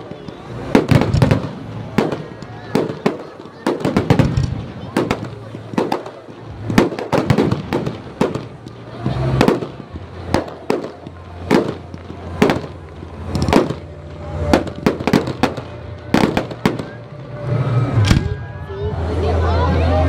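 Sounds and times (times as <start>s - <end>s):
quick firework cracks: 0.0s - 17.0s.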